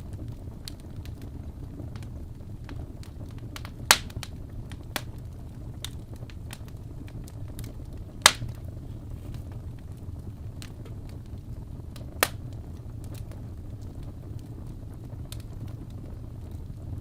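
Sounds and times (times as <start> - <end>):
fire pops: 0.0 - 17.0
wood fire crackling: 0.0 - 17.0.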